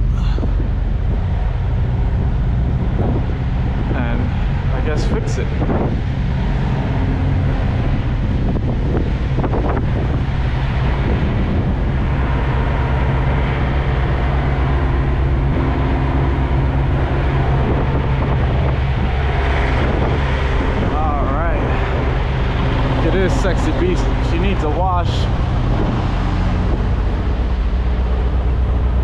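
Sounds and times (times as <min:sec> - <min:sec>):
diesel truck engine idling: 0:00.0 - 0:29.0
wind buffeting microphone: 0:00.0 - 0:29.0.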